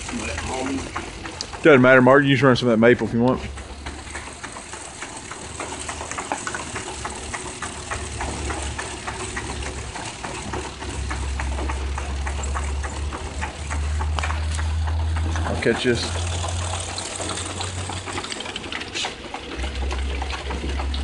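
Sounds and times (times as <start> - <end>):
machine hum: 0.0 - 21.0
rapid machine ticking: 0.0 - 21.0.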